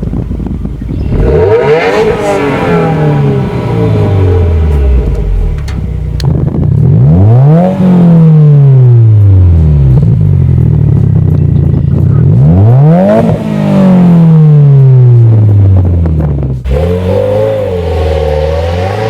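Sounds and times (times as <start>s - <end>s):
car exhaust revving: 0.0s - 19.0s.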